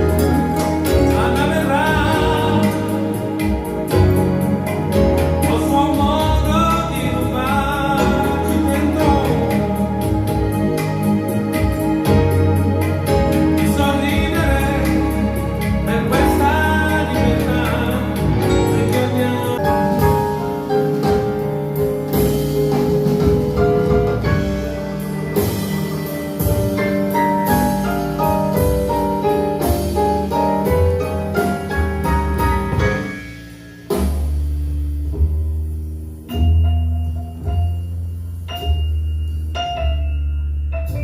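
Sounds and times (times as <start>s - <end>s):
song over stereo speakers: 0.0s - 34.0s.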